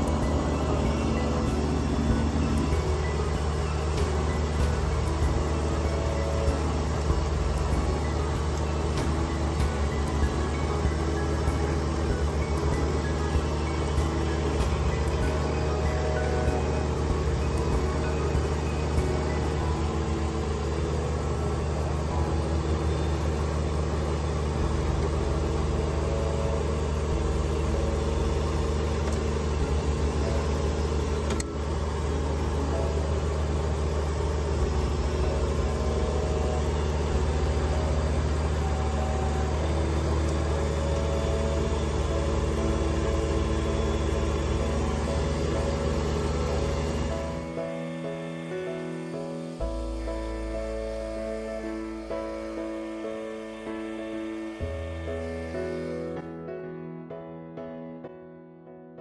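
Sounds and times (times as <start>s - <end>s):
tractor diesel engine running: 0.0s - 56.4s.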